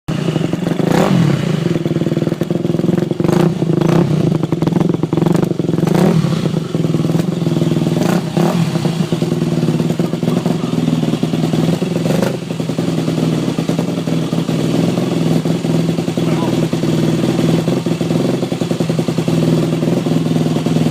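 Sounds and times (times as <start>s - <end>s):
dirt bike engine idling and revving: 0.1s - 20.9s.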